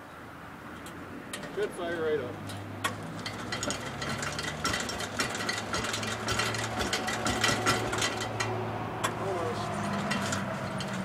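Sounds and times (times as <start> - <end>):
tractor engine running with ticks: 0.7 - 11.0.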